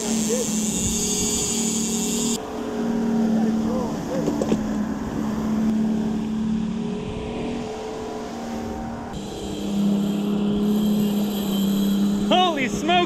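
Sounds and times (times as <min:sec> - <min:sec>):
outboard engine hum: 0:00.0 - 0:12.3
wind: 0:00.0 - 0:13.0.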